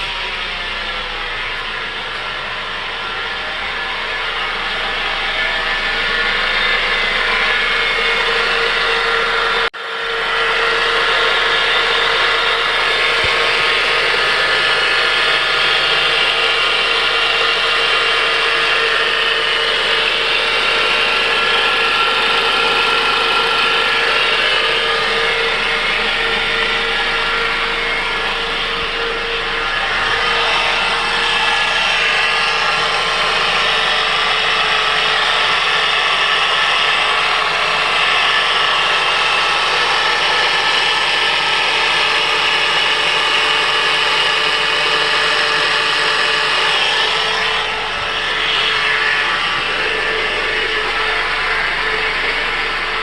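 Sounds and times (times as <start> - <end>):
car engine whining: 0.0 - 53.0.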